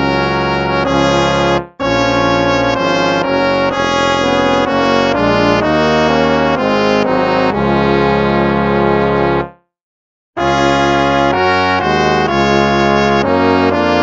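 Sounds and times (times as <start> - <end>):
instrumental hymn chords: 0.0 - 9.6, 10.4 - 14.0.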